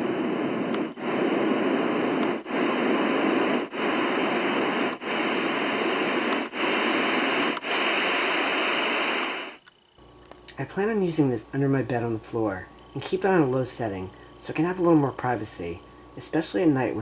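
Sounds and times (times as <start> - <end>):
white noise machine hiss: 0.0 - 17.0.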